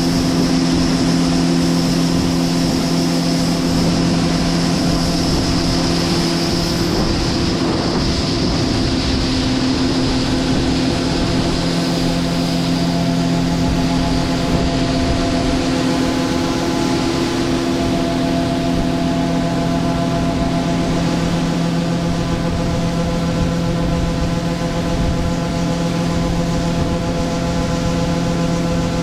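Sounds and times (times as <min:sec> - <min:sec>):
combine harvester diesel drone: 0:00.0 - 0:29.0
high machine whine: 0:00.0 - 0:29.0.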